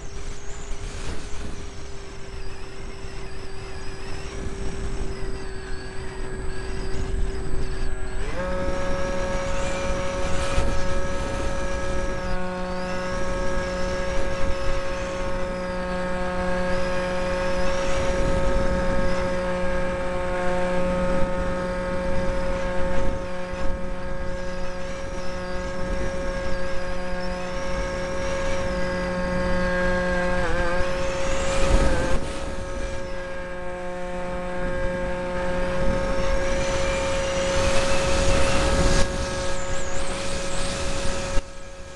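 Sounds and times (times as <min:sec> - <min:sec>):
model plane motor whine: 0:00.0 - 0:41.9
wind on microphone: 0:00.0 - 0:41.9.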